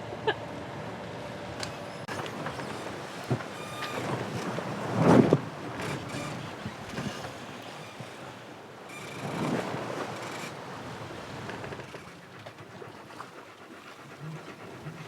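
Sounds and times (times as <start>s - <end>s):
water washing along boat hull: 2.0s - 15.0s.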